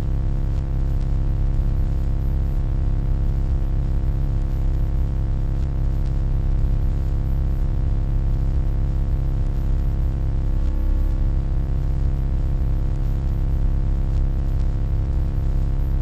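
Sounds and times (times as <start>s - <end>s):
low electronic hum: 0.0s - 16.0s.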